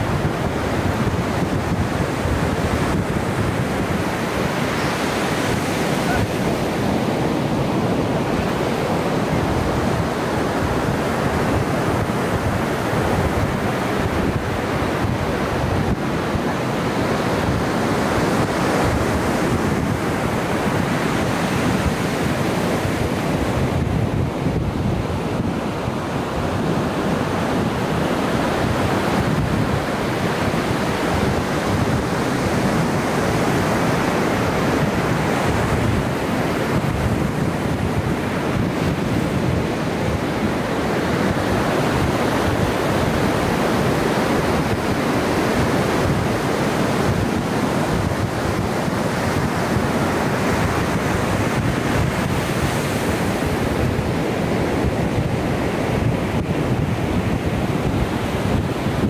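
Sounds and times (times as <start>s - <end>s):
ocean surf washing onto beach: 0.0s - 59.0s
wind rumbling on microphone: 0.0s - 59.0s.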